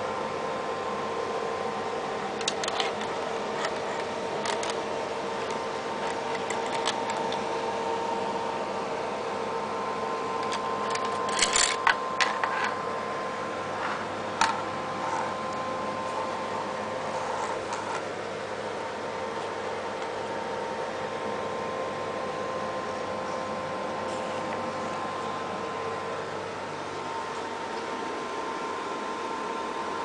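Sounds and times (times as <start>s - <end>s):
computer fans humming: 0.0s - 30.0s.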